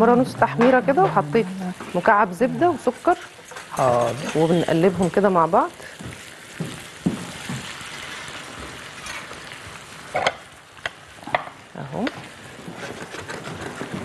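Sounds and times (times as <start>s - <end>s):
onions sizzling in a frying pan: 0.0s - 13.1s
spatula stirring in a pan: 0.1s - 14.0s.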